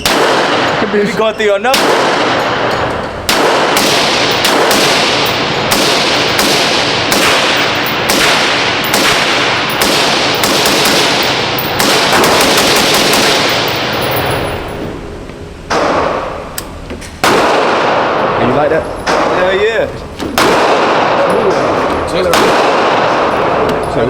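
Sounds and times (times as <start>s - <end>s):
echoing gunshots: 0.0s - 0.9s, 1.7s - 15.0s, 15.7s - 16.5s, 17.2s - 23.7s.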